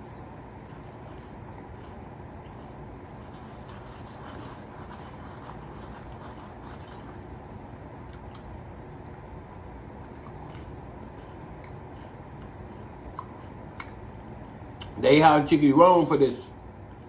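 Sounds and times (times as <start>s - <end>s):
person eating quietly: 0.0s - 15.0s
low background rumble: 0.0s - 17.0s.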